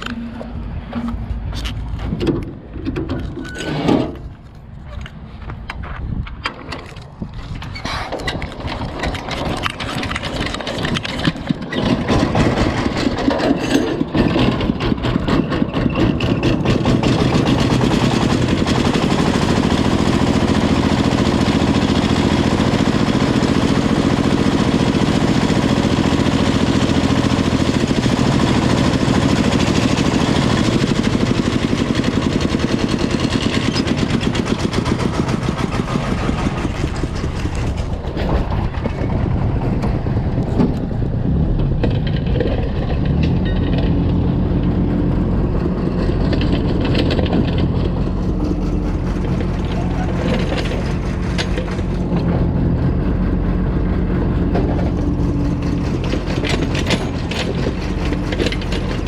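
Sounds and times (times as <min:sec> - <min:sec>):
diesel engine chugging: 0:07.6 - 0:59.0.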